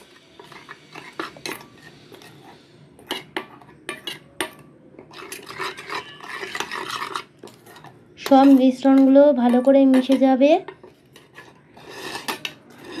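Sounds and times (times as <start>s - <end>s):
spoon clinking and scraping steel bowl: 0.0s - 13.0s.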